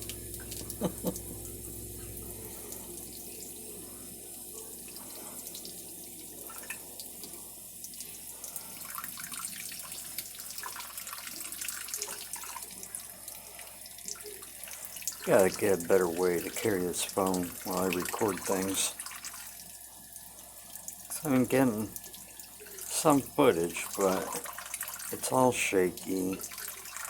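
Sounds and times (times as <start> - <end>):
tap water running into sink: 0.0 - 27.0.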